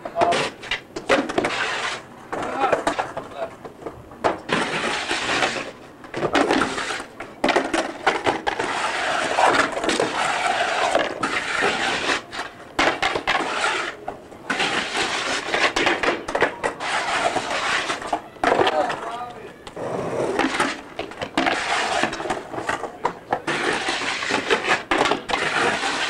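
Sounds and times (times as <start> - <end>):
skateboard trucks grinding concrete: 0.0 - 3.5, 4.2 - 26.0
skateboard clacking: 0.0 - 26.0
skateboard wheels rolling: 0.0 - 26.0.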